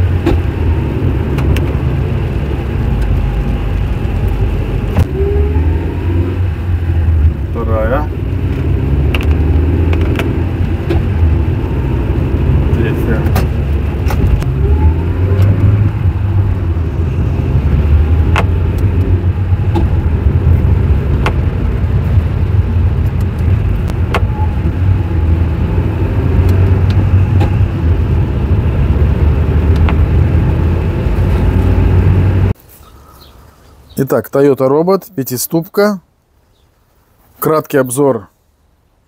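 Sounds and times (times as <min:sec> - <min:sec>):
car engine and road rumble: 0:00.0 - 0:34.8.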